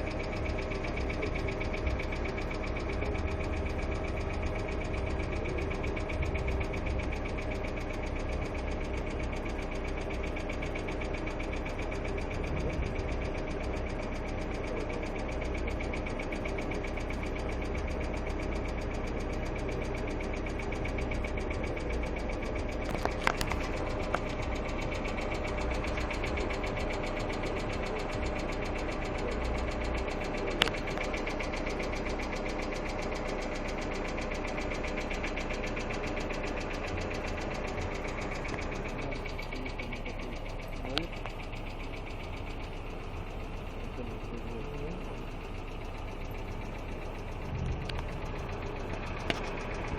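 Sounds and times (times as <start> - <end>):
car engine idling: 0.0 - 49.9
rapid valvetrain ticking: 0.0 - 49.9
sharp engine clicks: 0.0 - 49.9.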